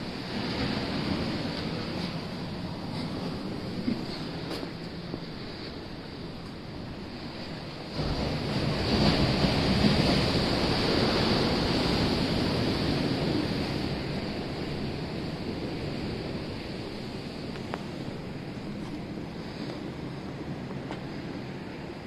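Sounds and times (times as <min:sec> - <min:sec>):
ocean wave breaking: 0:00.0 - 0:22.0
wind: 0:00.0 - 0:22.0.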